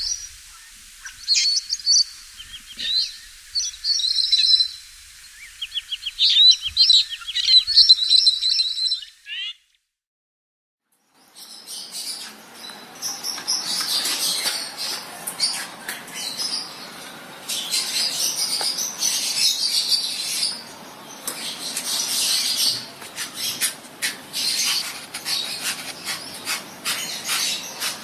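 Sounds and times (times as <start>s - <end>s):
lovebirds chirping and squeaking: 0.0s - 9.6s, 11.4s - 28.0s.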